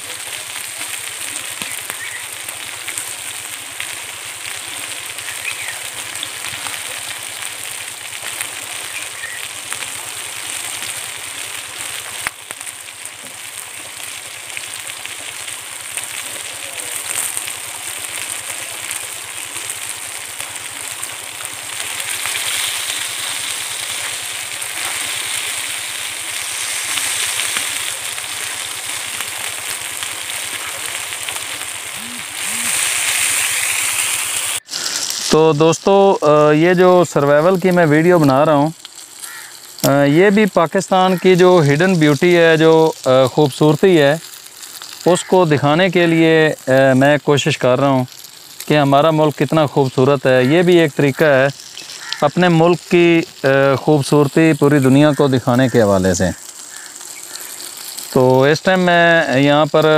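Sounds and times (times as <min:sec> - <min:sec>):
chicken sizzling on hot stone: 0:00.0 - 0:59.9.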